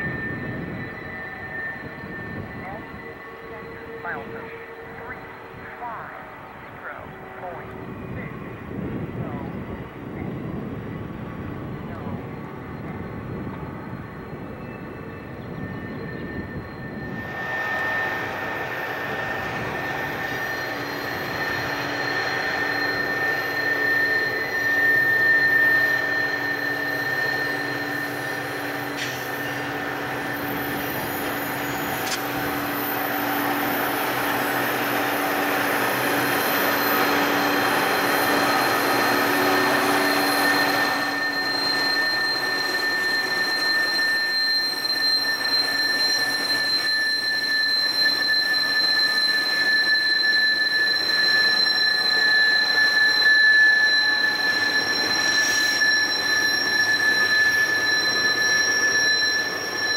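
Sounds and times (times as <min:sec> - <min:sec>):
train wheels squealing on rail: 0:00.0 - 0:59.9.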